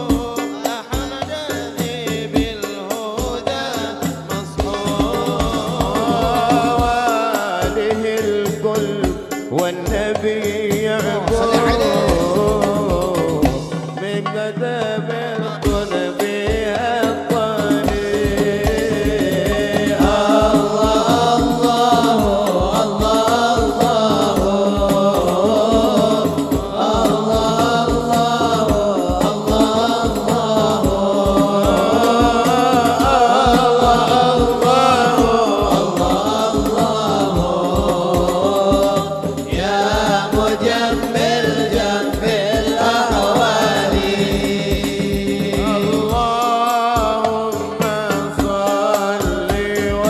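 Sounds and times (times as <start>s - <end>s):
frame drums and bass drum: 0.0s - 50.0s
men singing through a pa: 0.0s - 50.0s.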